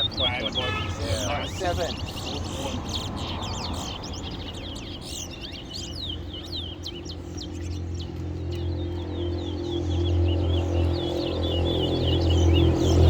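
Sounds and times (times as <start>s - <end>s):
finches chirping and warbling: 0.0s - 13.0s.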